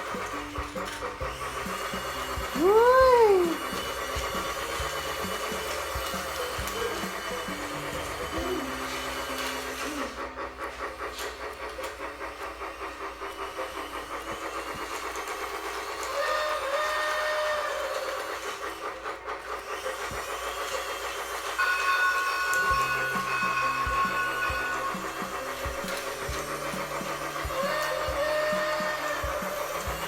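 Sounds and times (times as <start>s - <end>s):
toy train electronic chugging: 0.0s - 30.0s
whistle-like tones: 0.1s - 10.4s, 11.8s - 18.7s, 21.6s - 30.0s.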